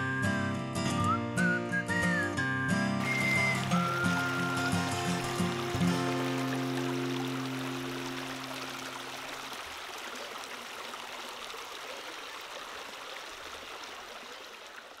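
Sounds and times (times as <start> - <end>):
stream babbling over rocks: 3.0 - 15.0.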